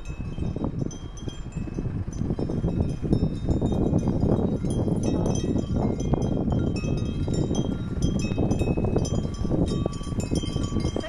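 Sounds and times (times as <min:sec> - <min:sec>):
small metal bells ringing: 0:00.0 - 0:11.0
steady low rumble: 0:00.0 - 0:11.0.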